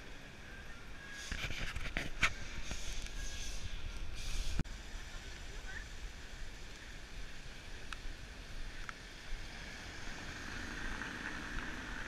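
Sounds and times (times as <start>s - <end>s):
street traffic hiss: 0.0s - 12.0s
wind rumbling on microphone: 0.5s - 12.0s
car tyres on cobblestones: 1.0s - 12.0s.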